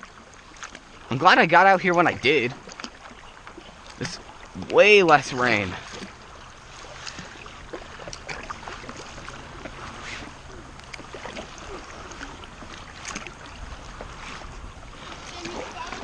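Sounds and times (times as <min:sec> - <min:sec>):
paddle strokes in water: 0:00.0 - 0:16.0
small water splashes: 0:00.0 - 0:16.0.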